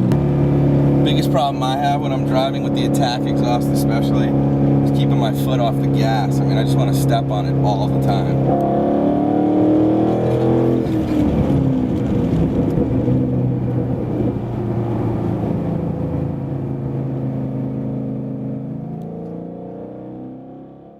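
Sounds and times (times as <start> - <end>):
car engine running: 0.0 - 20.1.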